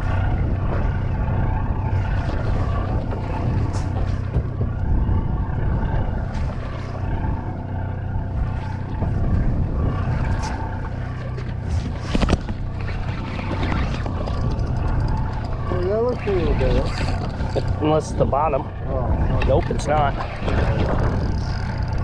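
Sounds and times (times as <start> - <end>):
boat engine running: 0.0 - 22.0
water noise: 0.0 - 22.0
wind: 0.0 - 22.0.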